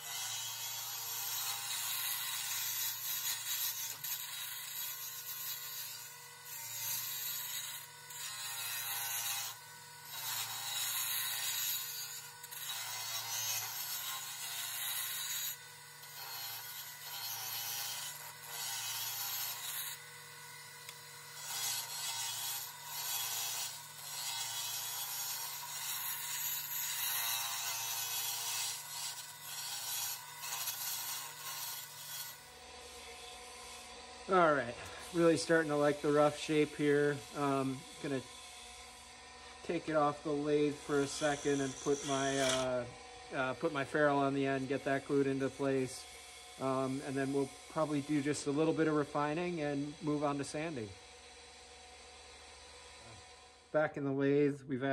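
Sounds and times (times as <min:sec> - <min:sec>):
wood lathe humming: 0:00.0 - 0:53.7
turning tool cutting wood hiss: 0:00.0 - 0:53.8.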